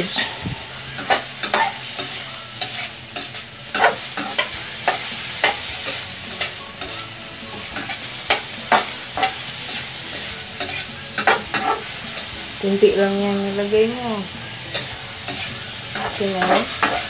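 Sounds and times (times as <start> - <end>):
metal spatula scraping a wok: 0.0 - 12.6, 14.4 - 17.0
pork sizzling in oil: 0.0 - 17.0.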